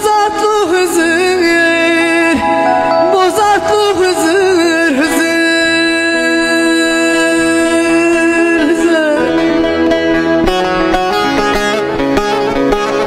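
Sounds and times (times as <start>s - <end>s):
plucked string accompaniment: 0.0s - 13.0s.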